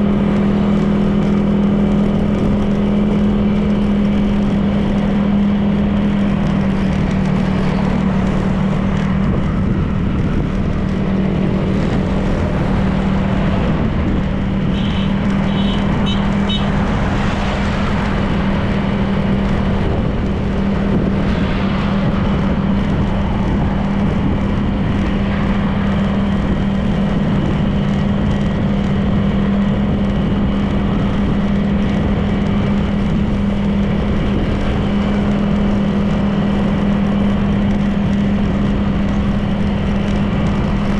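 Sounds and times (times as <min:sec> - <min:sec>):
scooter engine cruising: 0:00.0 - 0:40.9
wind and road noise: 0:00.0 - 0:40.9.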